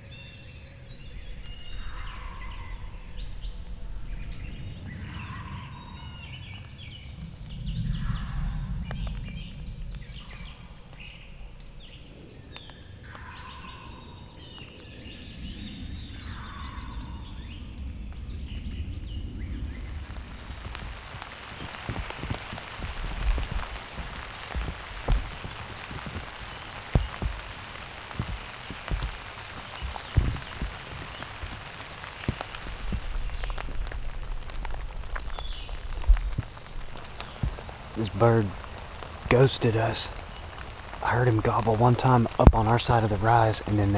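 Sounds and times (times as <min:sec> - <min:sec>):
heavy raindrops striking close by: 0:00.0 - 0:43.9
rain pattering: 0:00.0 - 0:43.9
songbirds chirping: 0:00.0 - 0:43.9.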